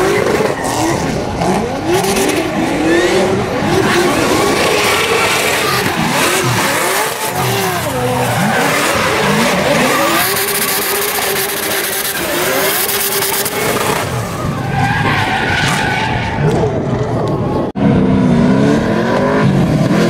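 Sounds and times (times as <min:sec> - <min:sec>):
car engines revving: 0:00.0 - 0:20.0
tyres skidding: 0:00.0 - 0:20.0.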